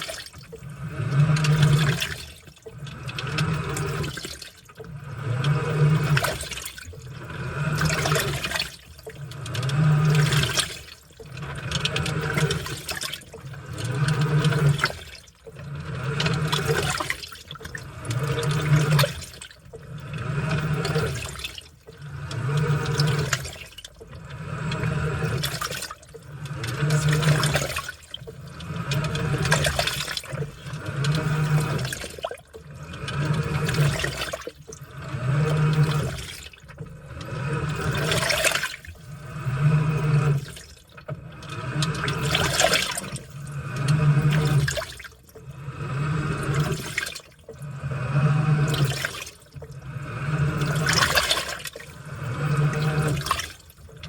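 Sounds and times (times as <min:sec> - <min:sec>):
washing machine motor hum: 0:00.0 - 0:54.0
water and laundry sloshing: 0:00.0 - 0:54.0.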